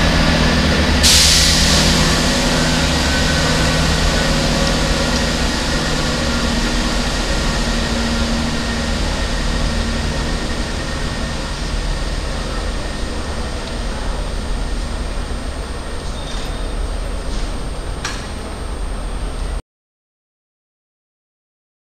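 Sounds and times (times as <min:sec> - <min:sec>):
diesel train engines droning: 0:00.0 - 0:19.6.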